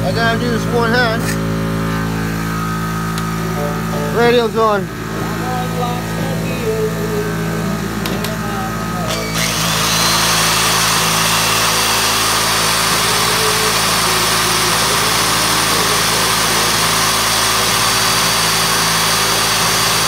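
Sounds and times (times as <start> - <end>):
electric motor low hum: 0.0 - 20.0
loud whirring hiss: 0.0 - 20.0.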